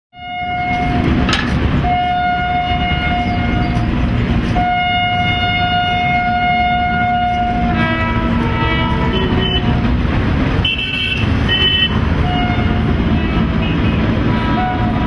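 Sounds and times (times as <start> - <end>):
locomotive horn blasts: 0.2 - 1.2, 1.8 - 10.0, 10.6 - 15.0
train rumbling past: 0.2 - 15.0.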